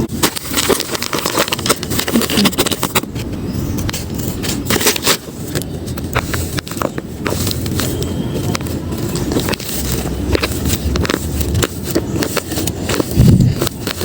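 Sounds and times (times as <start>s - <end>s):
paper bag crinkling: 0.0s - 14.0s.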